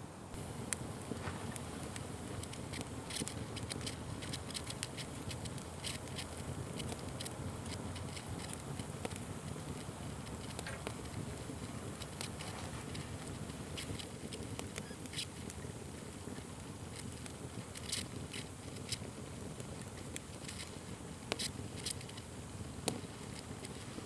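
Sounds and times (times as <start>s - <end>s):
low fire rumble: 0.2s - 24.0s
wood fire crackling and popping: 0.3s - 24.0s.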